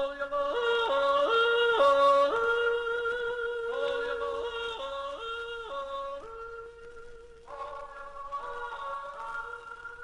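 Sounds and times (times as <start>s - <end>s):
person yodeling: 0.0s - 10.0s.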